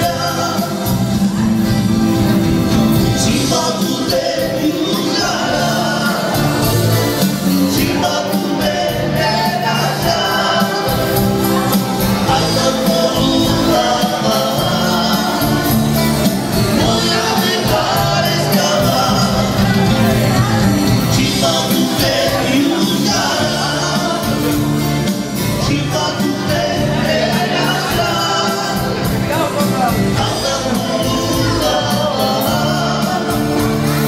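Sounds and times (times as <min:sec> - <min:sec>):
wedding band music with singing: 0:00.0 - 0:34.0.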